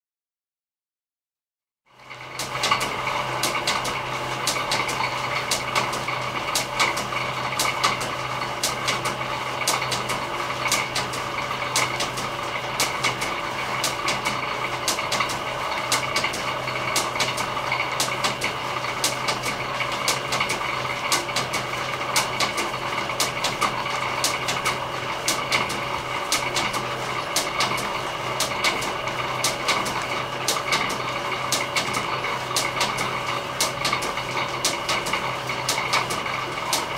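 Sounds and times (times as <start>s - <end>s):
belt drive machinery hum: 1.9s - 36.9s
sharp mechanical clicks: 2.4s - 36.9s.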